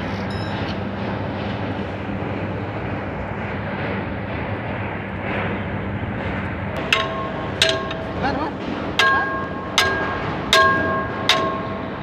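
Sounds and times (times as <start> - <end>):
bulldozer diesel engine drone: 0.0 - 12.0.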